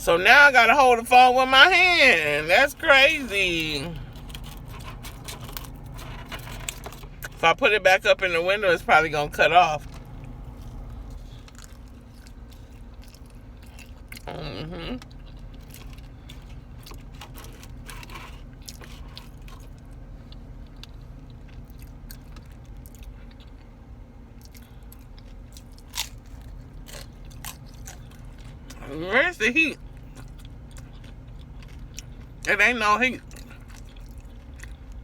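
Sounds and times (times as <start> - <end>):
steady low hum: 0.0 - 35.0
person chewing crunchy food: 0.9 - 7.5, 8.6 - 29.0, 29.8 - 35.0.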